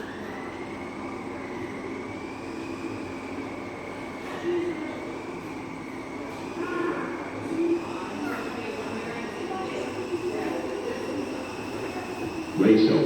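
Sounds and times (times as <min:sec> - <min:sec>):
noisy background: 0:00.6 - 0:13.0.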